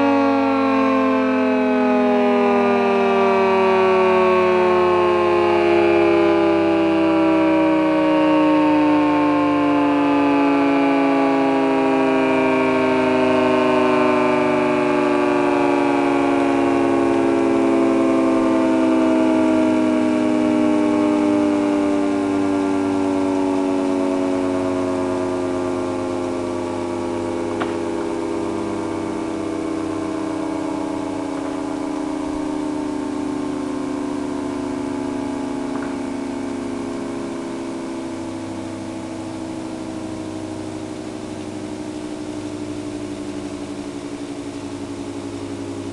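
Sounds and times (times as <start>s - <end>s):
low steady hum: 0.0s - 45.9s
warning siren winding down: 0.0s - 45.9s.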